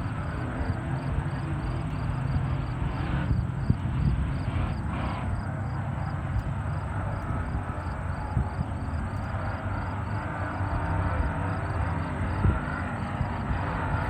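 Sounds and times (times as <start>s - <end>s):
race boat engines droning: 0.0s - 14.0s.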